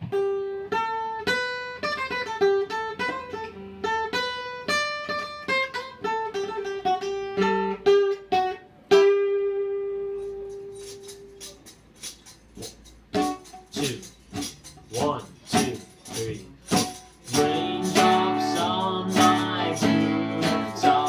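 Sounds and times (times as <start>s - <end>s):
guitar picked melody: 0.0s - 21.0s.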